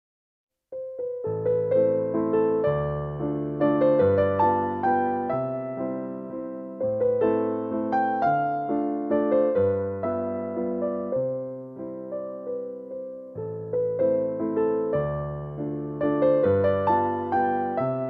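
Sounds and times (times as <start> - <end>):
slow electric piano music: 0.7 - 18.0.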